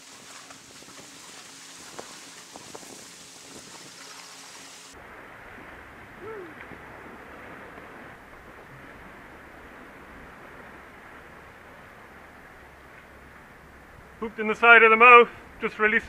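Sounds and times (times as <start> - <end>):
sea wash: 0.0 - 16.0
wind hiss: 0.0 - 16.0.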